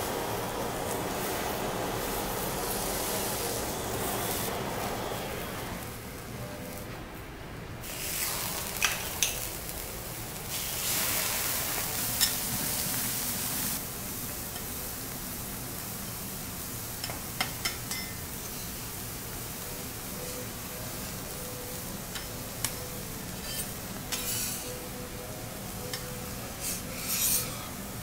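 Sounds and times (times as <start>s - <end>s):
food sizzling on griddle: 0.0s - 6.0s, 7.8s - 28.0s.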